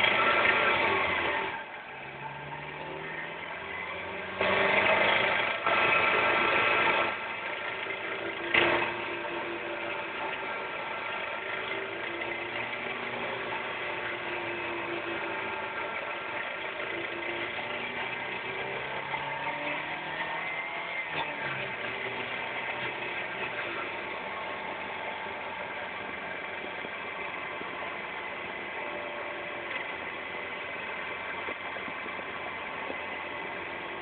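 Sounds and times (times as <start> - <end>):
engine running through listening hose: 0.0 - 34.0.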